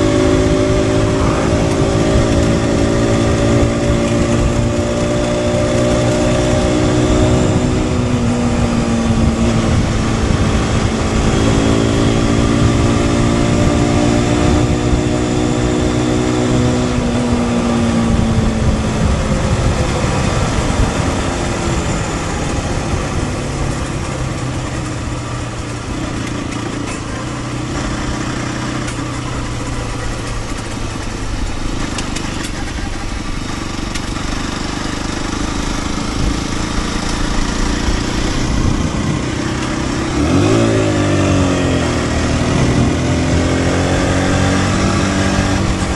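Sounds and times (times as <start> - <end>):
motorcycle engine under way: 0.0 - 45.9
wind and road noise: 0.0 - 45.9.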